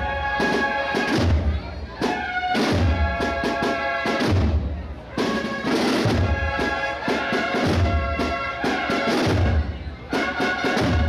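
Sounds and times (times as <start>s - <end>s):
brass band playing a march: 0.0s - 11.0s
side drum strokes: 0.4s - 11.0s.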